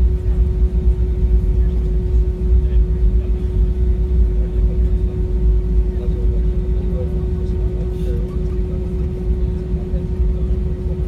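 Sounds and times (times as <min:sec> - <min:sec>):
constant cabin hum: 0:00.0 - 0:11.0
jet engine rumble in cabin: 0:00.0 - 0:11.0.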